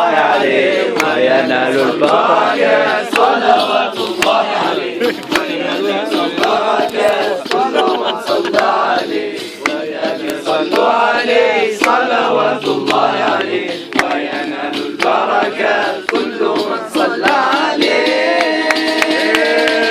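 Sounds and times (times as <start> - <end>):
men singing in chorus: 0.0 - 19.9
sharp percussive hits: 0.0 - 19.9.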